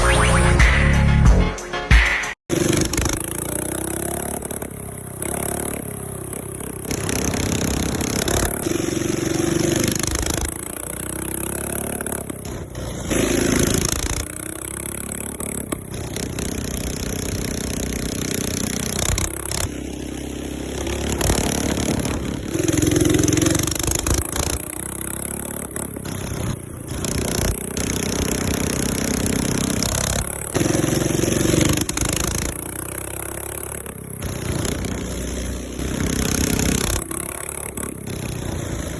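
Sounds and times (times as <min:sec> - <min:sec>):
minibike engine revving: 0:02.5 - 0:38.9.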